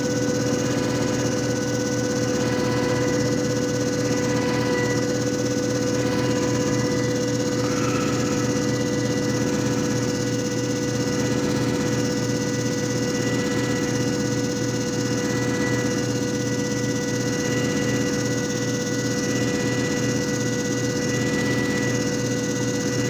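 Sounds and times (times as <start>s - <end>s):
disc repair machine motor hum: 0.0s - 23.0s.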